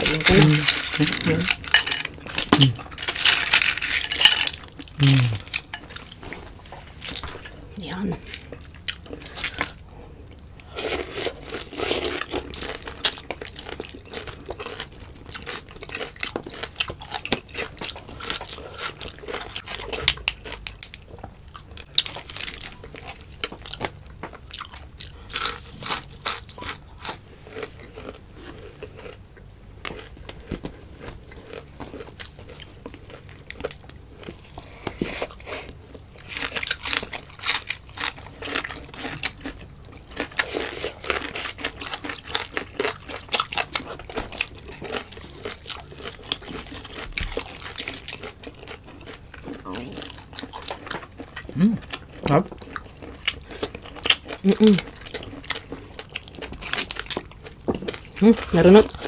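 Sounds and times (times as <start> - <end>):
biting and chewing food: 0.0 - 59.0.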